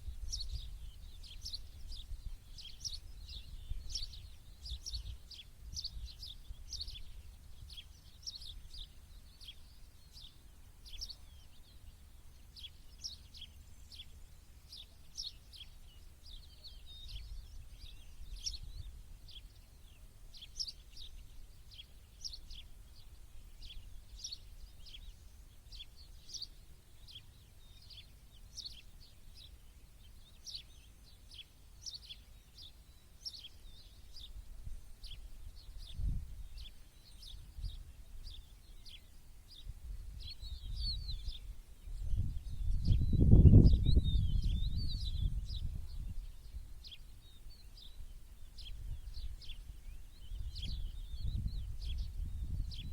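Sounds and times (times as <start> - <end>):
small songbirds chirping: 0.0 - 52.9.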